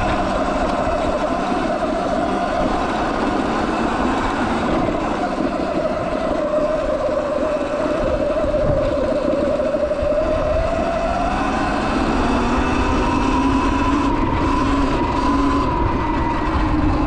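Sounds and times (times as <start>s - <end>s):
electric motor whine: 0.0s - 17.0s
tyres rumbling on dirt: 0.0s - 17.0s
wind: 0.0s - 17.0s.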